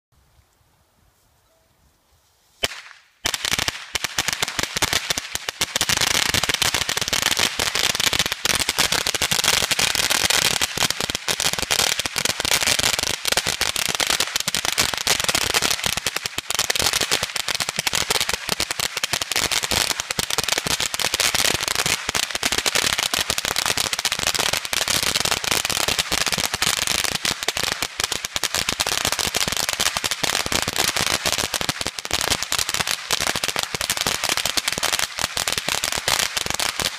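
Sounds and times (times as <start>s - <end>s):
firecrackers going off: 2.6s - 36.9s.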